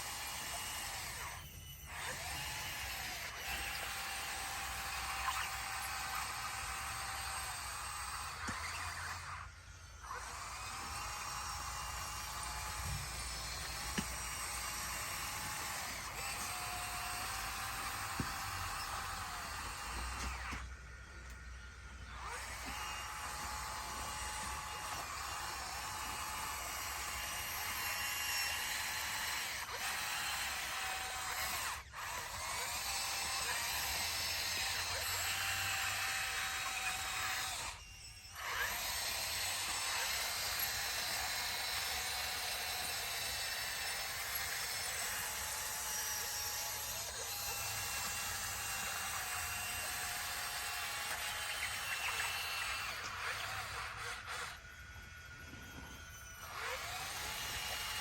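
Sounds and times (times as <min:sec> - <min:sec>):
bulldozer mechanical whine: 0:00.1 - 0:42.1, 0:46.6 - 0:58.0.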